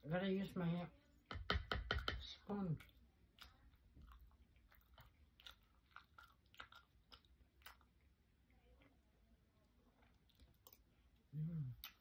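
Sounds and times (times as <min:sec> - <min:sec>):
person chewing food: 0:01.0 - 0:09.0, 0:09.8 - 0:12.0.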